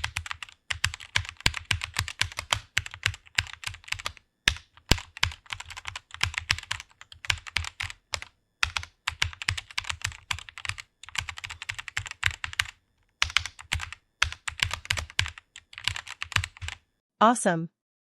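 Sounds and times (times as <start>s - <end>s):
fast keyboard typing: 0.0s - 16.8s.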